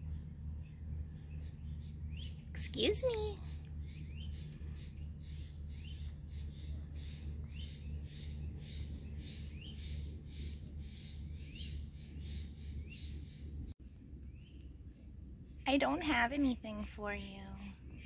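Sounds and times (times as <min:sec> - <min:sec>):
bird chirping: 0:00.0 - 0:18.0
steady low hum: 0:00.0 - 0:18.0.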